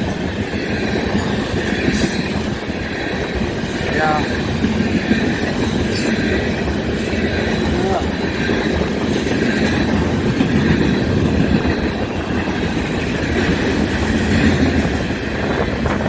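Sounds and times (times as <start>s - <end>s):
freight train rumble and wheel clatter: 0.0s - 16.0s.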